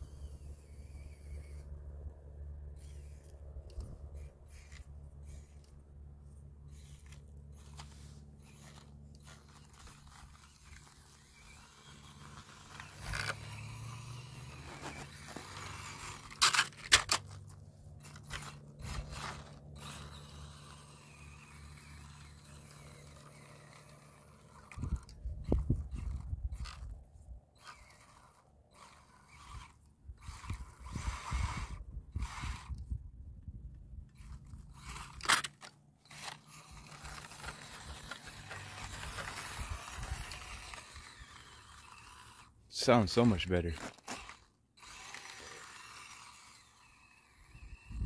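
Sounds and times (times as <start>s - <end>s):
toy car drivetrain hum: 0.0s - 33.0s, 34.0s - 48.0s
tyres scraping on dirt and rock: 6.7s - 26.9s, 27.5s - 32.8s, 34.2s - 48.0s.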